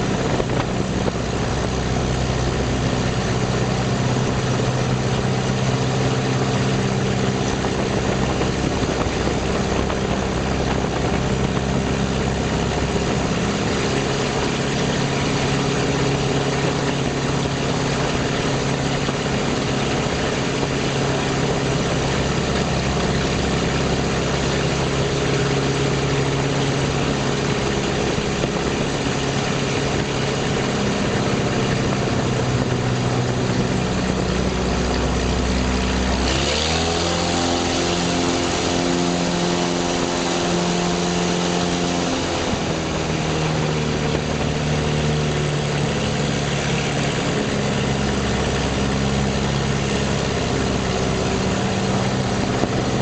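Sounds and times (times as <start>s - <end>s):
propeller aircraft engine: 0.0s - 53.0s.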